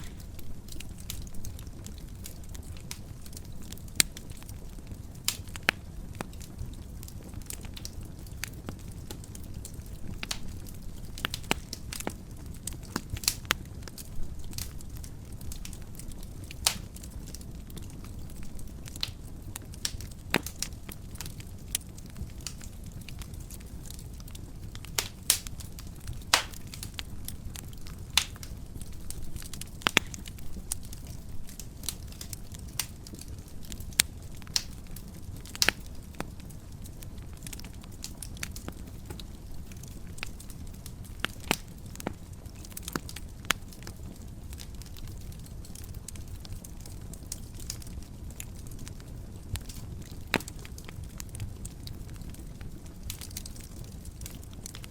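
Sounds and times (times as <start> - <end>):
burning logs popping and snapping: 0.0 - 54.9
low rumble of flames: 0.0 - 54.9.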